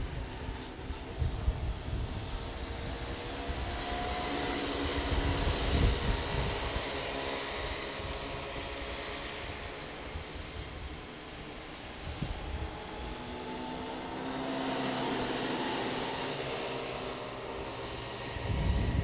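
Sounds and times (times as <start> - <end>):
kart engines running: 0.0 - 19.0.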